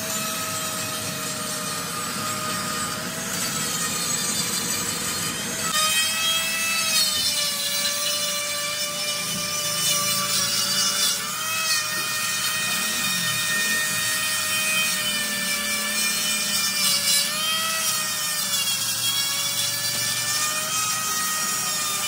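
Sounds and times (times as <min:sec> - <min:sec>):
die grinder grinding metal: 0:00.0 - 0:22.0.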